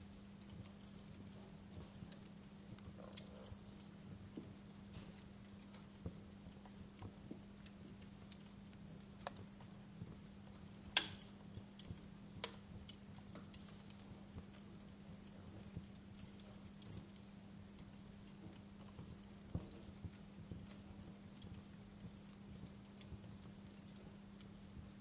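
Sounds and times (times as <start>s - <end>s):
faint low hum: 0.0s - 25.0s
wood fire crackling: 0.0s - 25.0s.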